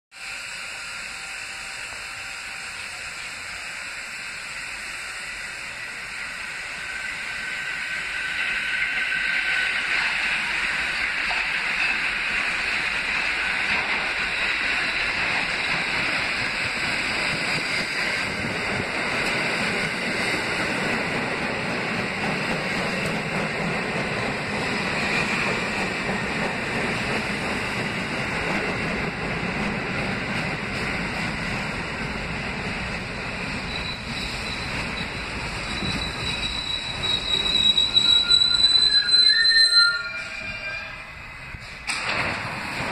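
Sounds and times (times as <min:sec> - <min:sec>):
steel wheels rushing on rail: 0:00.1 - 0:42.9
deep train rumble: 0:00.2 - 0:42.9.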